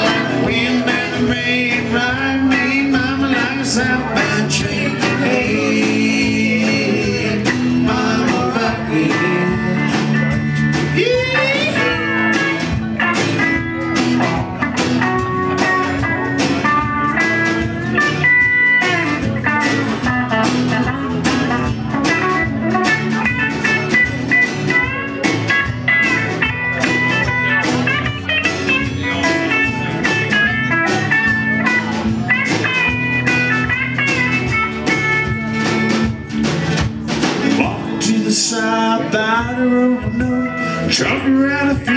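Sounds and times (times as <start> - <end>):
country-rock band playing: 0.0 - 41.9.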